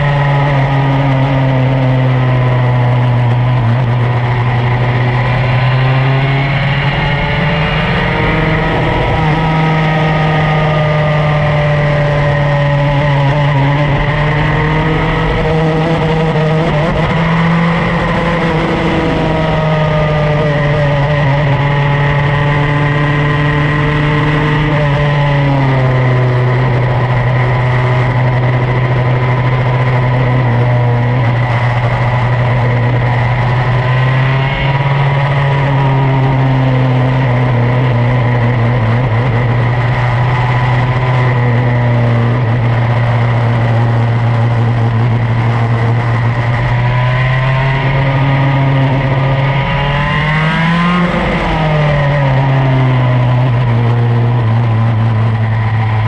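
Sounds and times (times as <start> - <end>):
racing kart engine: 0.0 - 56.0
wind and road noise: 0.0 - 56.0.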